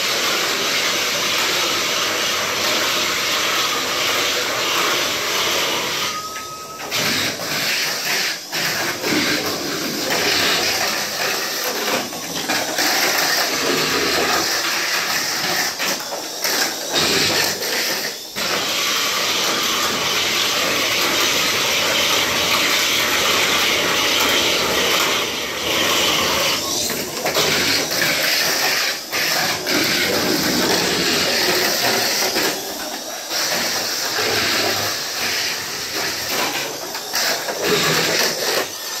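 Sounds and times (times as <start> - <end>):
toy car motors whirring on track: 0.0 - 39.0.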